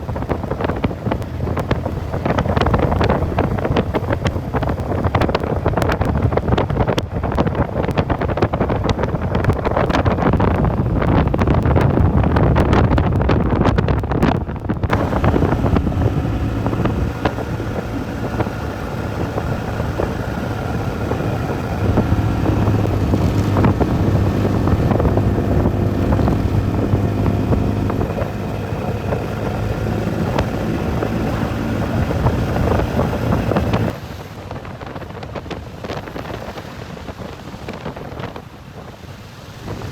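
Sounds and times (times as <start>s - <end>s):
motorcycle engine drone: 0.0s - 36.4s
wind buffeting on microphone: 0.0s - 39.9s.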